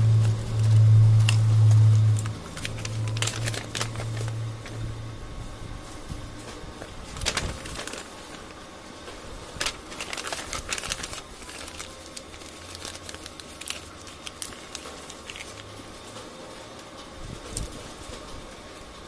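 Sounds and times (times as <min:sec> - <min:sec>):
paper rustling and crinkling: 0:00.0 - 0:04.9, 0:05.7 - 0:18.8.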